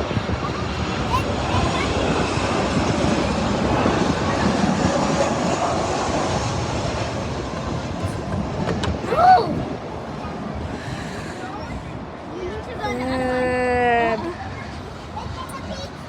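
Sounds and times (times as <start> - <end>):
jet airliner roaring overhead: 0.0 - 16.0.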